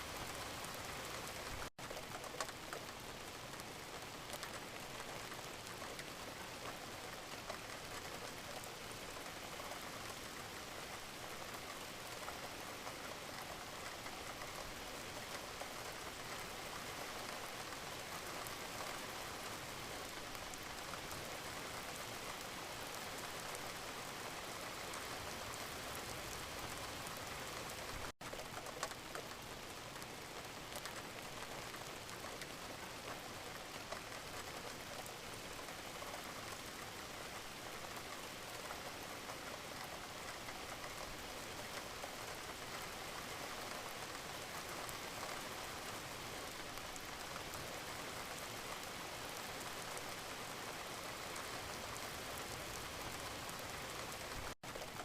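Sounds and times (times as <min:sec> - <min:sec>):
gentle rain patter: 0:00.0 - 0:55.0.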